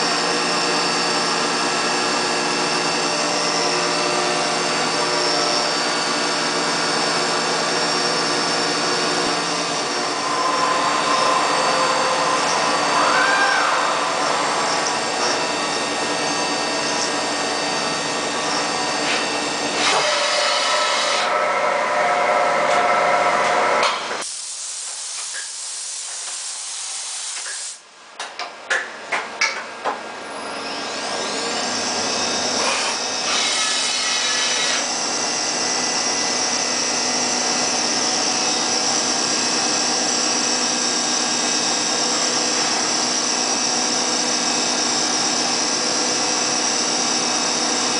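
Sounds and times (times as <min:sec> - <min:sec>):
milling machine whining: 0:00.0 - 0:27.7, 0:30.2 - 0:47.9.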